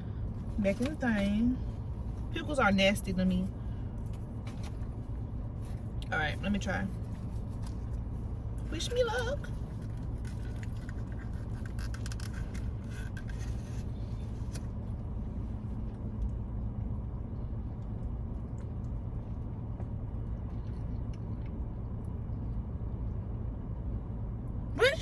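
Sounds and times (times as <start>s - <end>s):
car engine rumble inside cabin: 0.0s - 25.0s.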